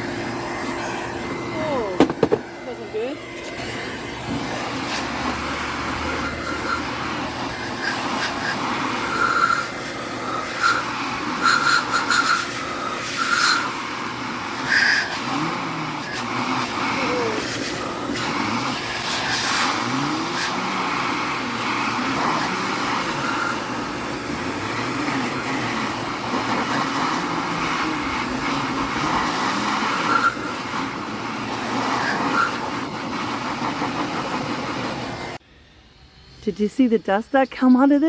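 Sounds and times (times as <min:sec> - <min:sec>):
air blower running: 0:00.0 - 0:37.7.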